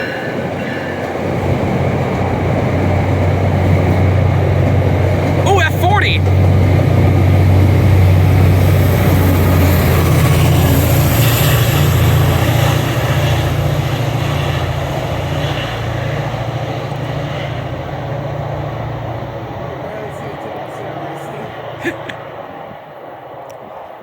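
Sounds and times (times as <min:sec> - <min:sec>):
train passing close by: 0:00.0 - 0:24.0.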